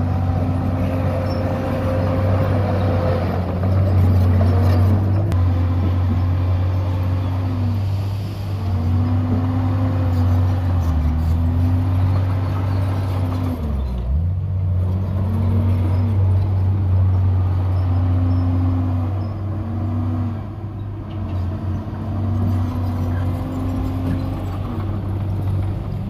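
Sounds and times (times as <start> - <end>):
bulldozer diesel engine running hard: 0.0 - 26.0.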